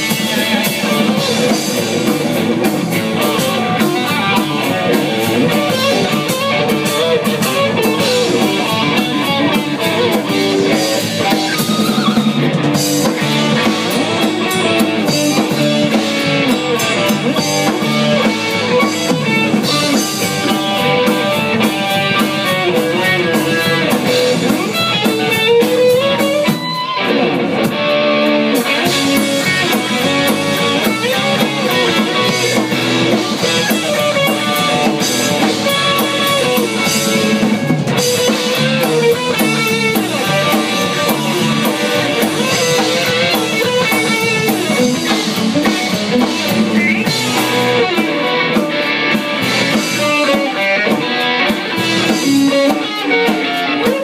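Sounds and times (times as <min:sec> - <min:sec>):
drum kit: 0:00.0 - 0:54.0
electric guitar lead lines: 0:00.0 - 0:54.0.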